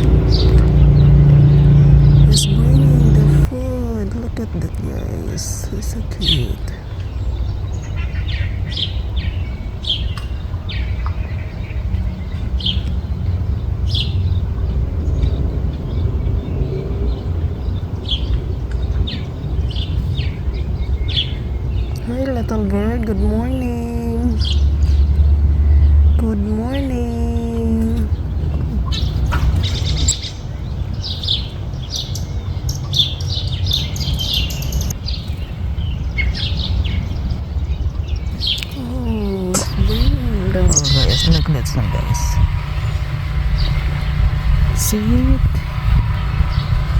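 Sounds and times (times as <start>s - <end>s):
steady low rumble: 0.0s - 7.9s, 9.1s - 31.1s, 34.8s - 46.9s
small birds chirping: 0.0s - 46.9s.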